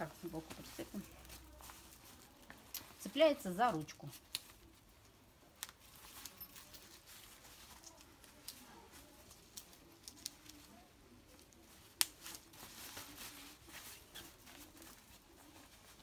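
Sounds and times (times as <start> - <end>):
nylon fabric rustling: 0.0 - 16.0.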